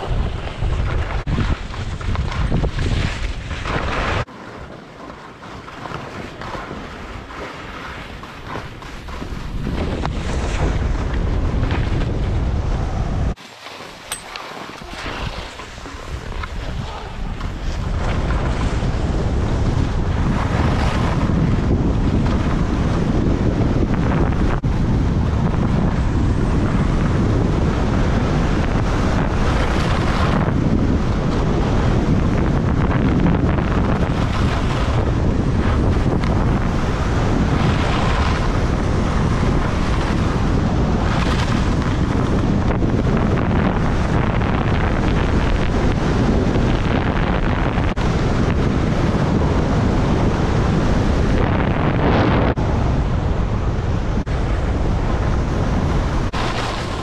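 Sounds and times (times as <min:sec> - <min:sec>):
wind buffeting microphone: 0:00.0 - 0:13.4, 0:14.1 - 0:57.0.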